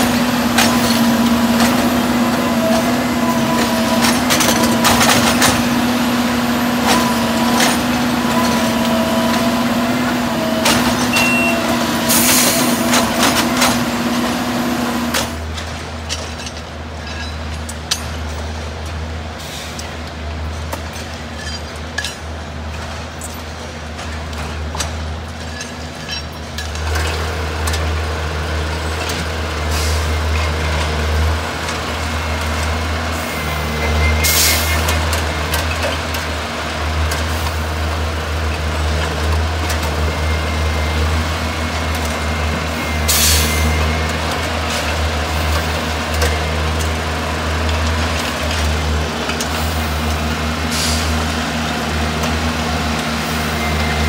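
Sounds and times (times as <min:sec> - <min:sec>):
engine and hydraulic drone: 0:00.0 - 0:54.0.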